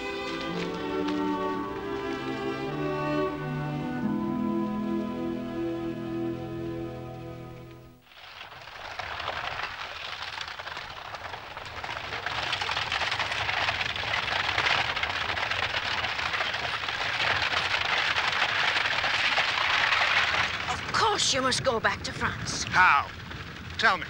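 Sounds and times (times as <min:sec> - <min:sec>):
coach wheels crunching on gravel: 0:00.0 - 0:06.0, 0:08.0 - 0:24.0.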